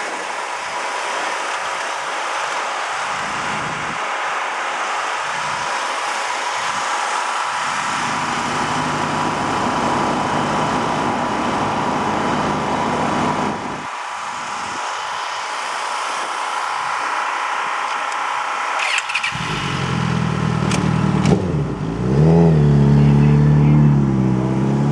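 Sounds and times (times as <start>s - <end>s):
steady engine drone: 0.0s - 24.9s.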